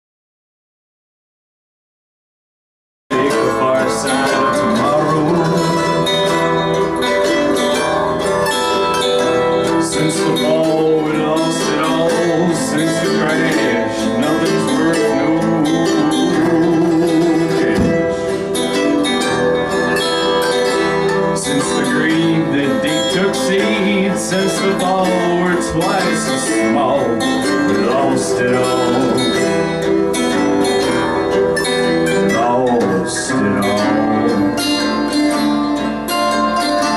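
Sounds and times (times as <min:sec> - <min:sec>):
string instrument melody: 0:03.1 - 0:36.9
strummed acoustic guitar: 0:03.1 - 0:36.9.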